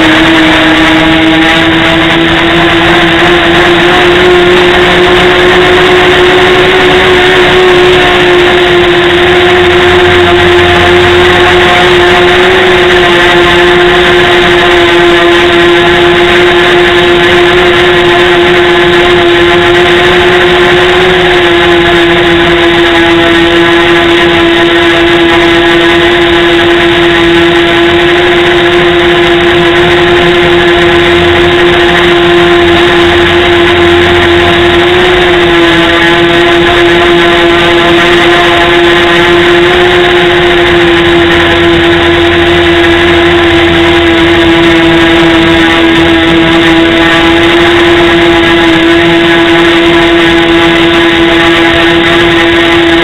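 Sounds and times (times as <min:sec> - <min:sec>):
electric motor and propellers whine: 0:00.0 - 0:53.0.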